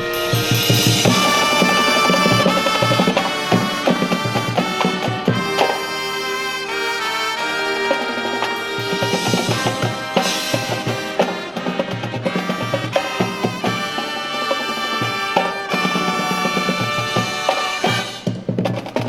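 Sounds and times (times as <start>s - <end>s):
brass section playing chords: 0.0s - 18.6s
marching drums: 0.0s - 19.0s.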